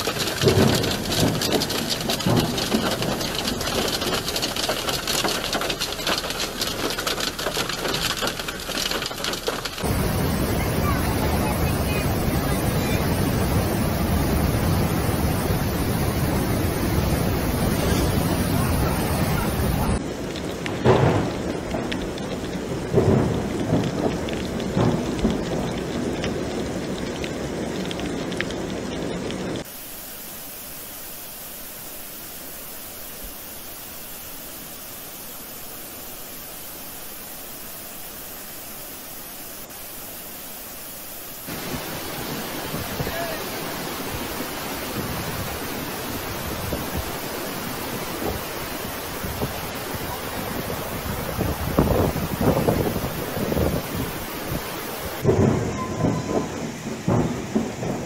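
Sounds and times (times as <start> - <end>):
flood water rushing: 0.0 - 58.0.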